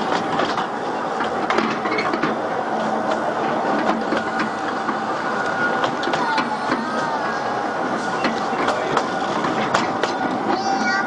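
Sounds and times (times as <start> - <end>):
train carriages rattling: 0.0 - 11.0
wheels clicking on rails: 0.0 - 11.0.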